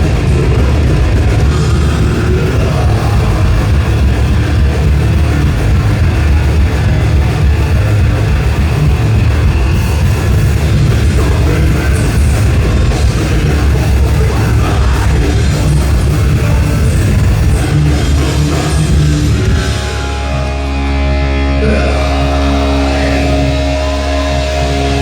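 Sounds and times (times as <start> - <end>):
distorted electric guitars: 0.0 - 25.0
pounding drum kit: 0.0 - 25.0.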